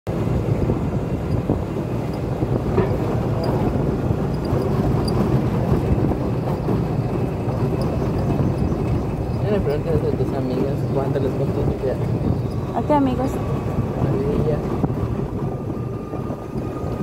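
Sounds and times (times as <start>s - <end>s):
golf cart rumbling on concrete: 0.1s - 17.0s.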